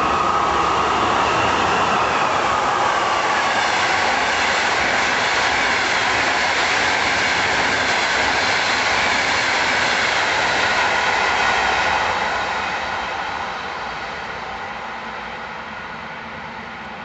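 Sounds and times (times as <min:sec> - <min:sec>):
passenger train passing at speed: 0:00.0 - 0:17.0.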